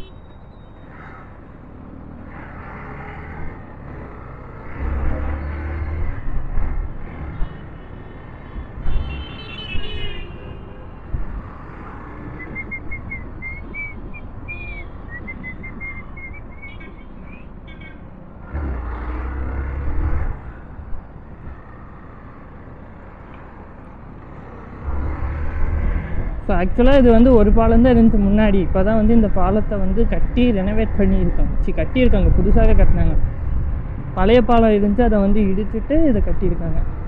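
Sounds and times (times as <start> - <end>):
road and wind noise: 0.0 - 37.0
traffic: 0.0 - 37.0.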